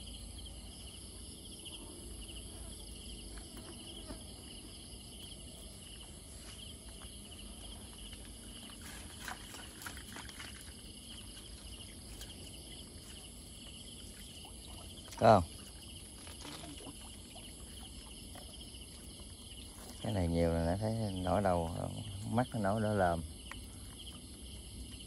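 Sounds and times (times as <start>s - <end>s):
night insects chirping: 0.0s - 25.0s.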